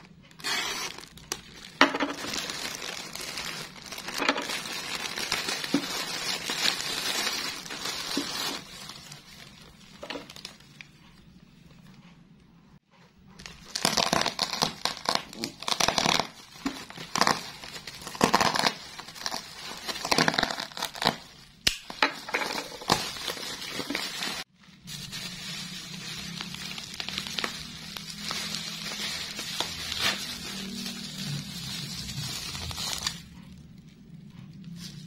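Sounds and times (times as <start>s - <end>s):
plastic mailer crinkling and tearing: 0.0s - 10.8s, 13.4s - 33.3s
bubble wrap rustling: 0.0s - 11.2s, 13.4s - 33.5s.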